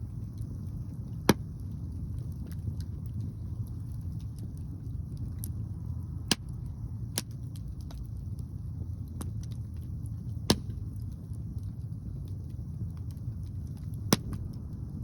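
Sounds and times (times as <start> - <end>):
wind rumble on microphone: 0.0 - 15.0
wood fire crackling and popping: 0.0 - 15.0.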